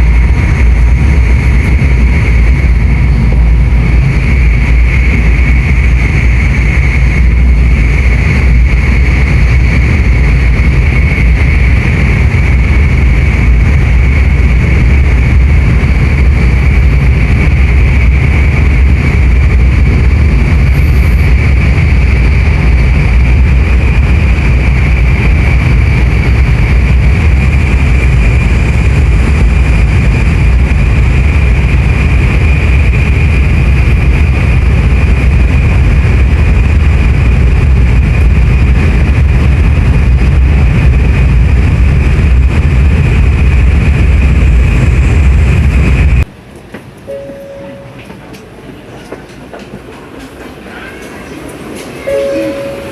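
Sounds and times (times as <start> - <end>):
train running at speed: 0.0 - 52.9.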